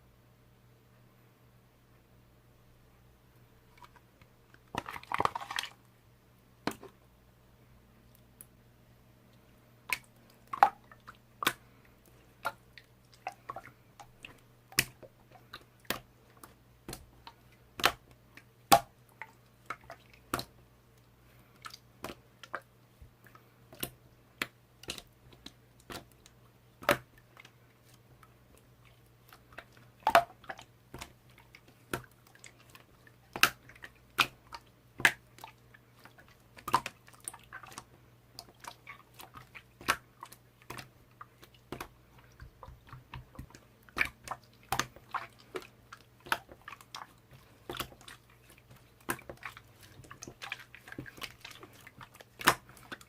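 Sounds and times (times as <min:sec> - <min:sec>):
slime squishing: 0:03.7 - 0:05.9, 0:09.8 - 0:53.0.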